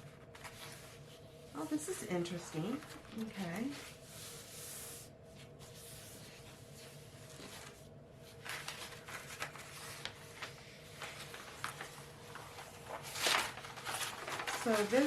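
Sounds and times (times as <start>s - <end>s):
paper and packaging rustling: 0.0s - 15.0s
steady low hum: 0.0s - 15.0s.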